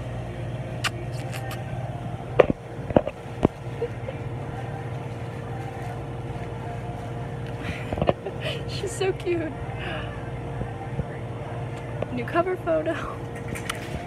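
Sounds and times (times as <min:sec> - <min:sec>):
low hum of indoor store: 0:00.0 - 0:14.0.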